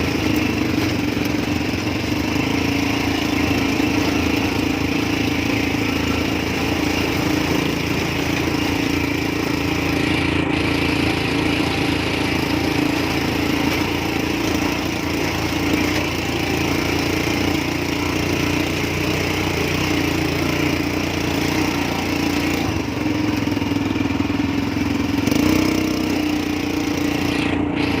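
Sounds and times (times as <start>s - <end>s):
atv engine droning: 0.0s - 28.0s.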